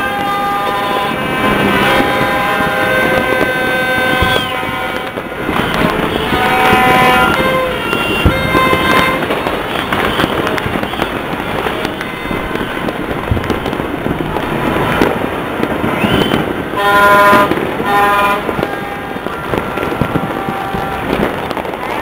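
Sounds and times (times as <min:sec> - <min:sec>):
fireworks popping and crackling: 0:00.0 - 0:22.0
horns tooting: 0:00.0 - 0:22.0.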